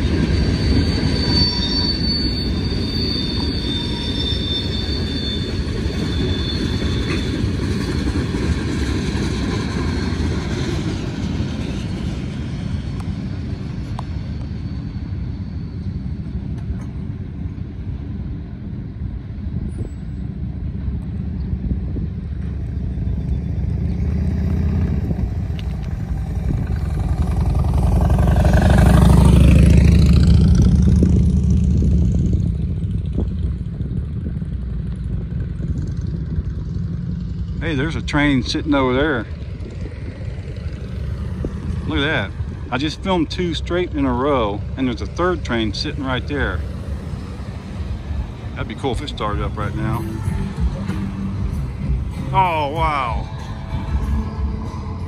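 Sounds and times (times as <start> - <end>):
high wheel squeal: 0.0 - 18.4, 22.4 - 32.4, 37.4 - 55.0
freight train cars rolling on rails: 0.0 - 55.0.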